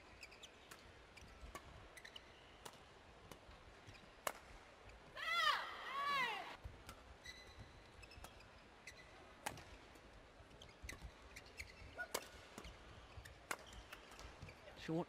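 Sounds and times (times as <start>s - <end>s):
court shoes squeaking: 0.0s - 5.2s, 6.5s - 15.0s
rackets striking shuttlecock: 0.2s - 4.6s, 6.6s - 14.5s.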